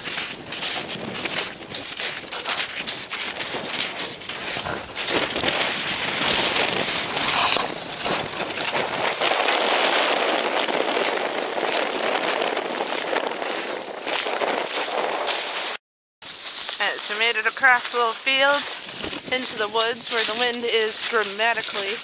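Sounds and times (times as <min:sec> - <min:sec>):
wind buffeting microphone: 0:00.0 - 0:15.8, 0:16.8 - 0:22.0
footsteps crunching in snow: 0:00.0 - 0:22.0.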